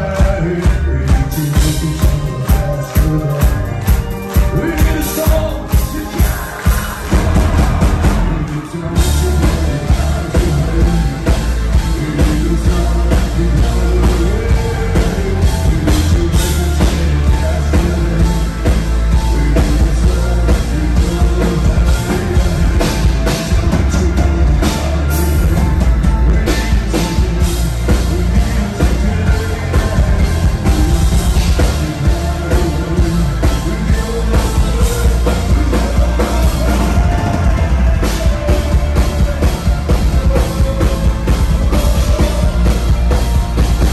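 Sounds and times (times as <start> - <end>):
bass guitar: 0.0 - 43.9
drum kit: 0.0 - 43.9
keyboards: 0.0 - 43.9
male singer: 0.0 - 43.9.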